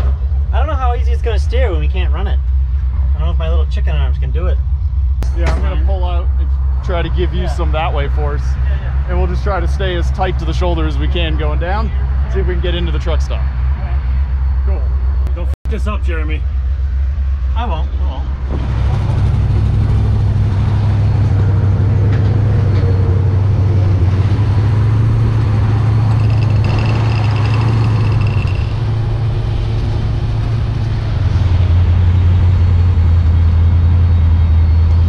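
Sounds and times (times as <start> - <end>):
road noise: 0.0 - 35.0
vehicle engine drone: 0.0 - 35.0.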